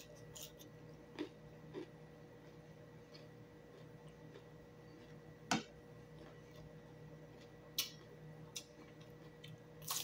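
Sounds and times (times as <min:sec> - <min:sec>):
crunching raw vegetable: 0:00.0 - 0:05.4, 0:06.0 - 0:10.0
faint steady hum: 0:00.0 - 0:10.0.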